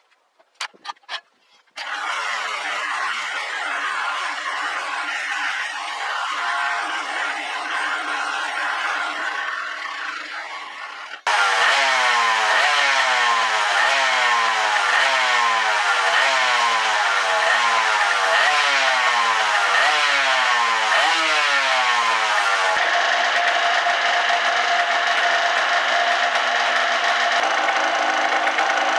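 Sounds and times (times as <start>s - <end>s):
two-stroke engine revving: 1.8s - 28.9s.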